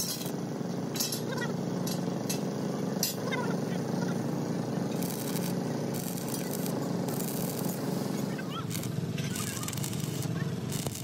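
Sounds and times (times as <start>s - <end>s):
steady low hum: 0.0s - 11.0s
welding arc crackling: 0.0s - 11.0s.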